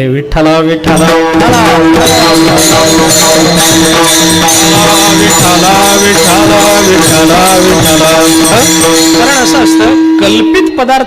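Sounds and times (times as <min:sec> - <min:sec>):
voices chanting: 0:00.9 - 0:10.0
held drone: 0:00.9 - 0:10.8
hand cymbals jingling: 0:00.9 - 0:11.0.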